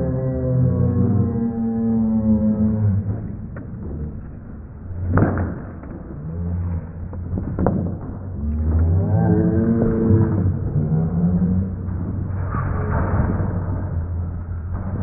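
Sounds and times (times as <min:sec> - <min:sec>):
music of long low notes: 0:00.0 - 0:15.0.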